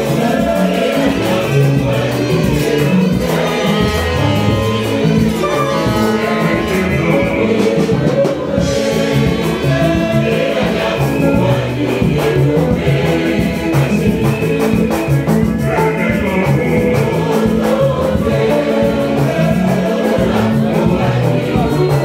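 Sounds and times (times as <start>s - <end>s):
choir singing a hymn: 0.0s - 22.0s
hand drum: 0.0s - 22.0s.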